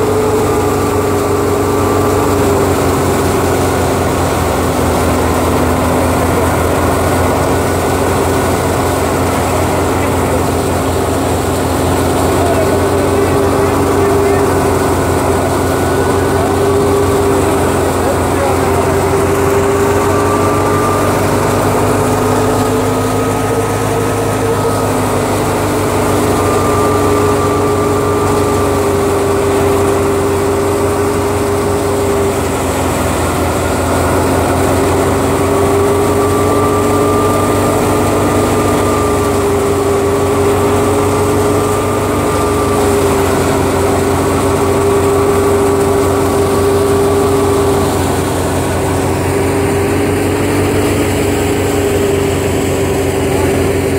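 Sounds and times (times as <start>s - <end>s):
thresher mechanical drone: 0.0s - 53.9s
tractor engine: 0.0s - 53.9s.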